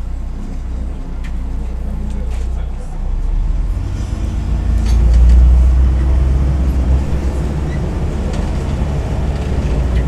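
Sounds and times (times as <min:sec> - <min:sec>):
bus diesel engine drone: 0:00.0 - 0:10.0
road noise: 0:00.0 - 0:10.0.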